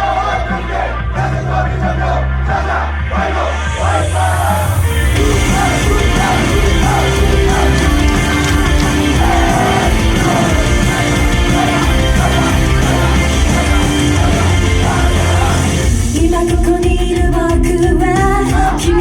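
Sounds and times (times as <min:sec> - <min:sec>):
rock pop song with singing: 0:00.0 - 0:19.0.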